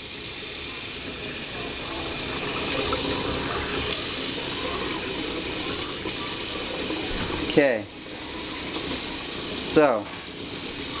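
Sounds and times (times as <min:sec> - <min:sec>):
faucet water splashing into sink: 0:00.0 - 0:11.0.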